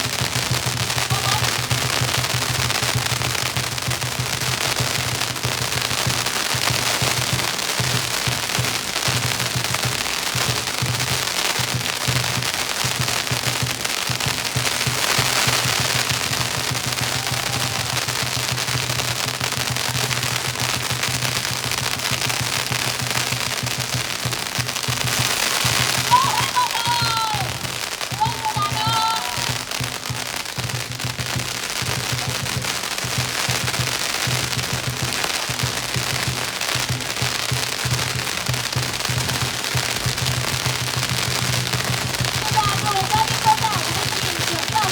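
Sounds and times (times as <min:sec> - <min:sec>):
firecrackers crackling: 0:00.0 - 0:44.9.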